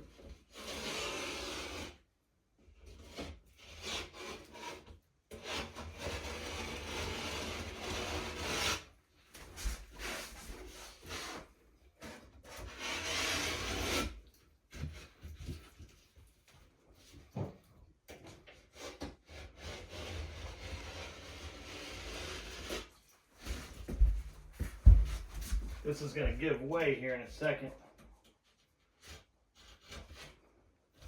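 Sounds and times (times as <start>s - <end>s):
blade rasping through drywall: 0.0s - 2.0s, 2.6s - 16.0s, 18.2s - 26.4s, 28.5s - 31.0s.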